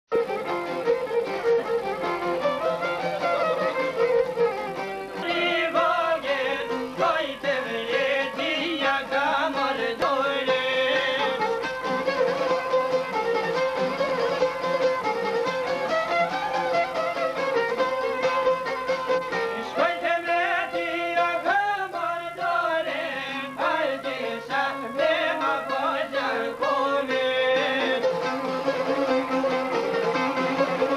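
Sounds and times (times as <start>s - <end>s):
folk violin melody: 0.1s - 30.9s
string accompaniment: 0.1s - 30.9s.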